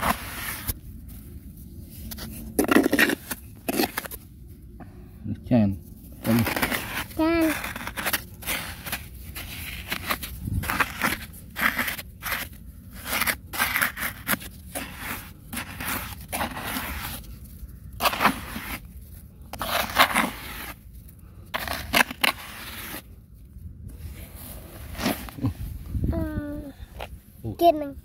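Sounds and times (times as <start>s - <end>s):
hands scraping sandy soil: 0.0s - 4.2s, 6.1s - 20.9s, 21.5s - 23.1s, 23.9s - 25.7s.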